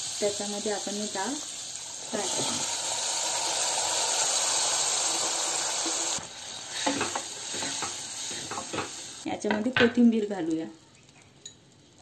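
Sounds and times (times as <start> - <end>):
lentils sizzling in hot oil: 0.0 - 11.1.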